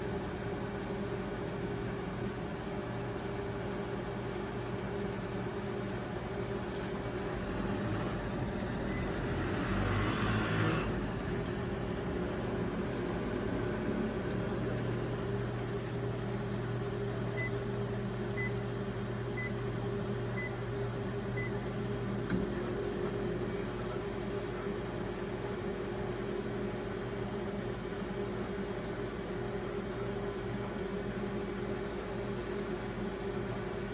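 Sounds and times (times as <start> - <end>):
microwave oven humming: 0.0 - 33.9.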